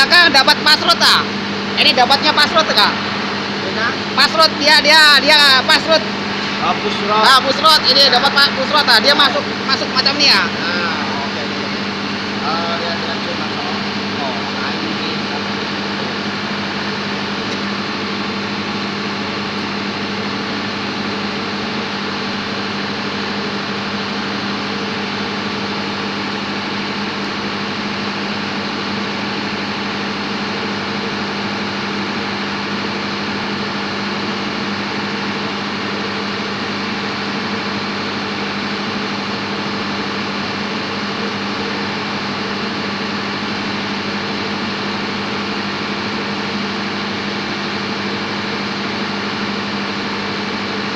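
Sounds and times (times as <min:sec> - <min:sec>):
machinery drone with low hum: 0:00.0 - 0:50.9.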